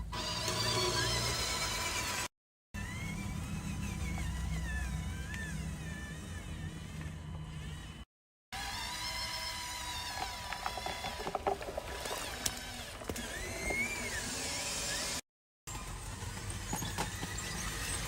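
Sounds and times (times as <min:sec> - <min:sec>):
small electric motors whining: 0:00.0 - 0:18.0.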